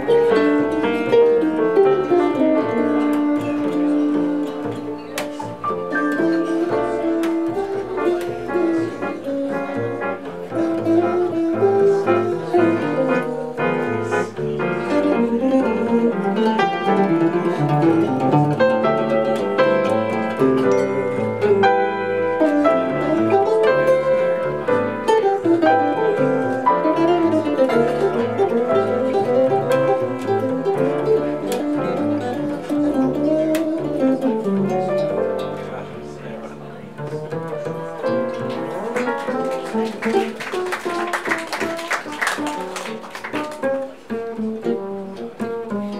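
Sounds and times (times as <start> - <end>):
jazz trio playing: 0.0 - 45.9.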